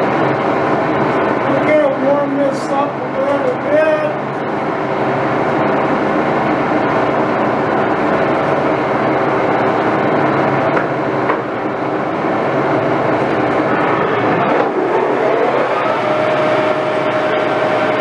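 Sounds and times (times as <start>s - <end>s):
shop machinery humming: 0.0s - 18.0s.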